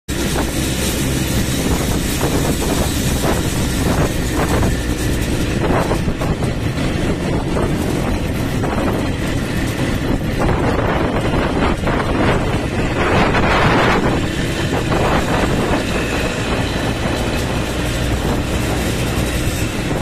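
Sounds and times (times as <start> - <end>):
quad bike engine running: 0.1 - 20.0.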